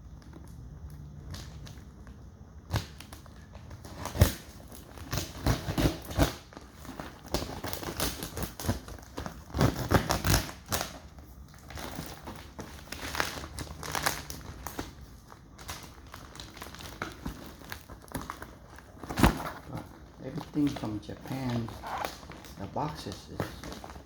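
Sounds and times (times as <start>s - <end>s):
wrapping crinkling and tearing: 0.0s - 24.0s.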